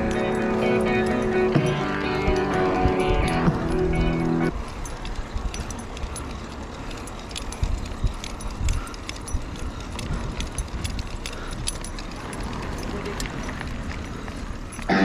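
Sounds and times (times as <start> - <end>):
metallic clinking of leash: 0.0 - 15.0
road rumble: 0.0 - 15.0.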